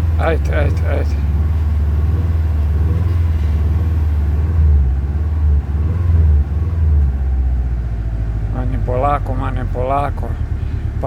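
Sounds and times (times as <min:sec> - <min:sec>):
car engine idling low rumble: 0:00.0 - 0:11.0.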